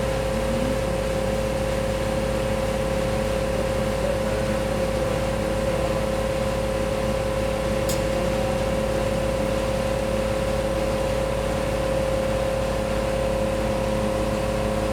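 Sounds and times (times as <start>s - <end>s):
steady machine hum: 0.0s - 14.9s.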